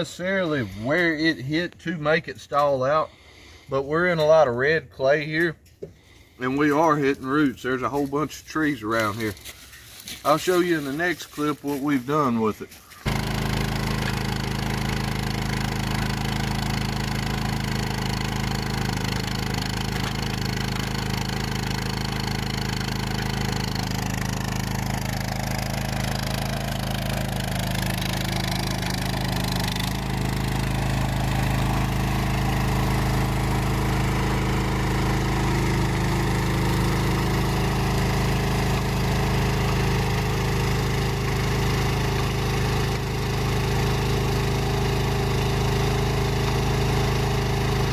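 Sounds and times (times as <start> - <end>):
skid steer engine running: 8.9 - 47.9.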